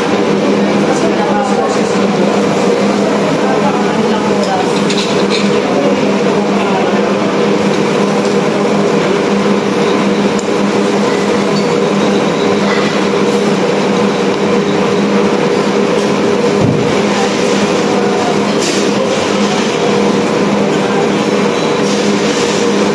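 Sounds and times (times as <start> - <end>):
ventilation fans roaring: 0.0 - 22.9.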